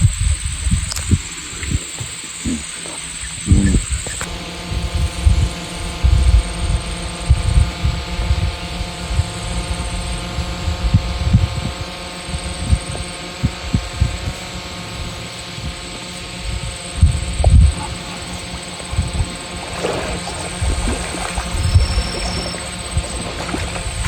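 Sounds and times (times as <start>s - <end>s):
engine hum: 0.0s - 24.0s
wind buffeting microphone: 0.0s - 24.0s.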